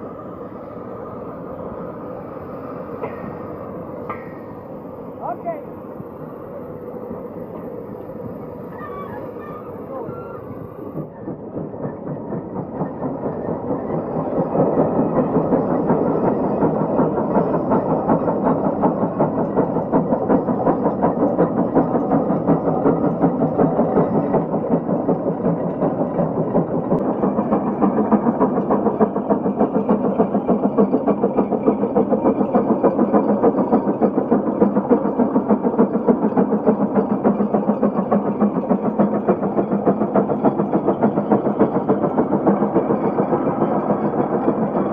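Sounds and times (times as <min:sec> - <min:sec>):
steam engine exhaust chuffing: 0:00.0 - 0:44.9.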